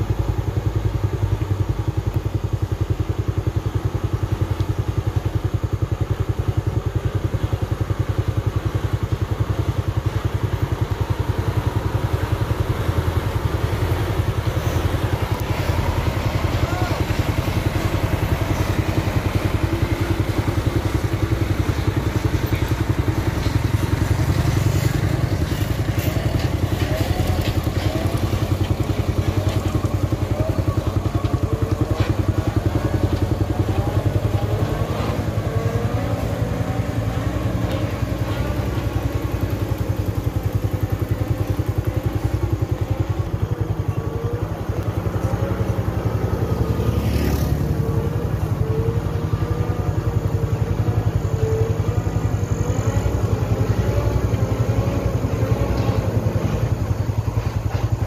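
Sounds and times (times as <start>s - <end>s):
motorcycle engine running: 0.0s - 58.0s
truck engines running: 0.0s - 58.0s.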